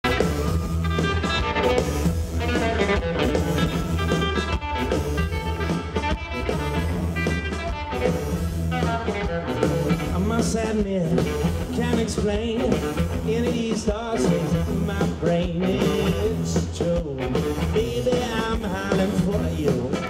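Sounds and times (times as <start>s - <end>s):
blues-rock band playing: 0.0s - 20.0s
drum kit: 0.0s - 20.0s
electric guitar: 0.0s - 20.0s.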